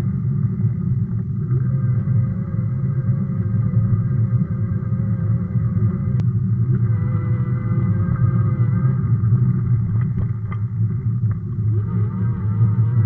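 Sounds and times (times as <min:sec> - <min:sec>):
road rumble: 0:00.0 - 0:13.0.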